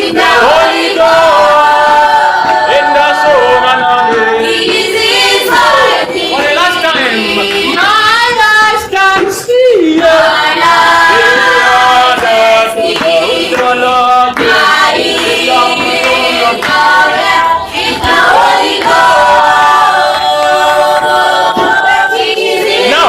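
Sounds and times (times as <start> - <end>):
choir singing gospel unaccompanied: 0.0 - 23.0.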